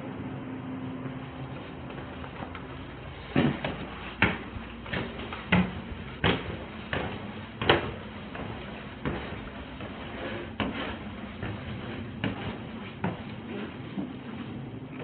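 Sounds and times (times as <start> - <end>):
footsteps on carpeted stairs: 1.2 - 15.0.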